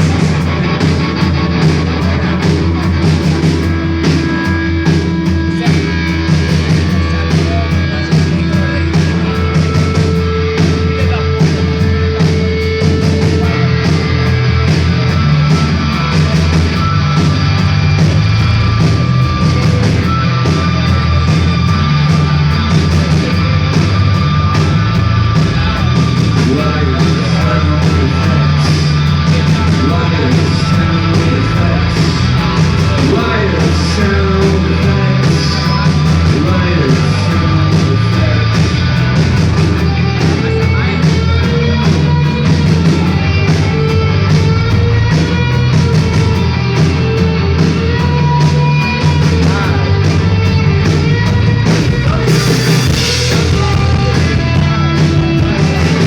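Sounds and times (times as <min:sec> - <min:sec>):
heavy rock band playing: 0:00.0 - 0:56.0.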